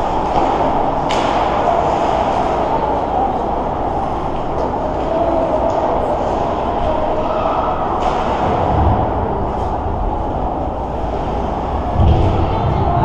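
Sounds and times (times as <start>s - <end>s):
ice rink ambience drone: 0.0s - 13.0s.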